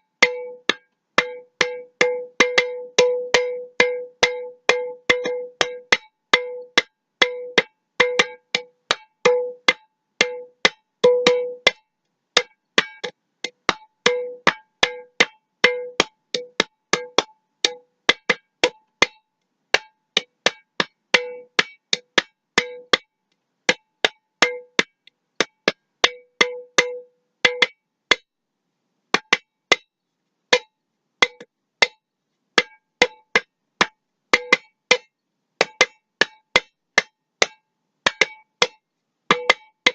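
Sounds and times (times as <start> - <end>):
glass jar struck rhythmically: 0.0 - 23.1, 23.7 - 28.3, 32.6 - 39.9.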